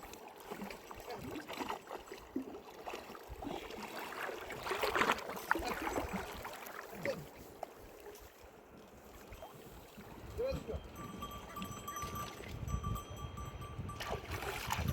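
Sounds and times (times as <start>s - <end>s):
water sloshing and splashing: 0.0s - 12.9s, 13.9s - 14.9s.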